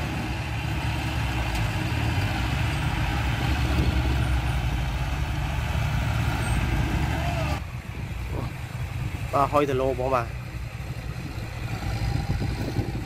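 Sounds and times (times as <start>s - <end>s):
heavy diesel engines droning: 0.0s - 13.0s.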